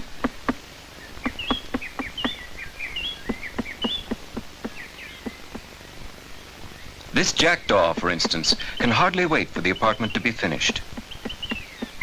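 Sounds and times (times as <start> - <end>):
woodpecker knocking on wood: 0.0 - 5.7, 7.8 - 12.0
small birds chirping: 0.0 - 12.0.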